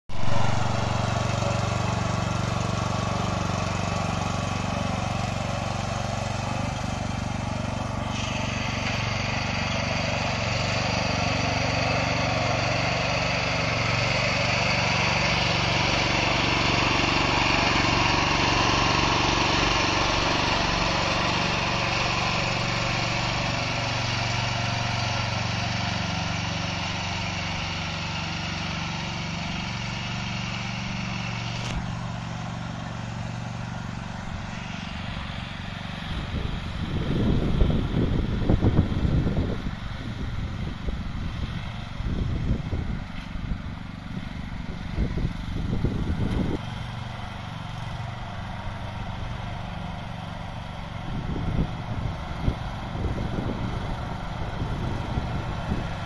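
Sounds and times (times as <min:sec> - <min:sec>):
tractor engine running under load: 0:00.1 - 0:56.0.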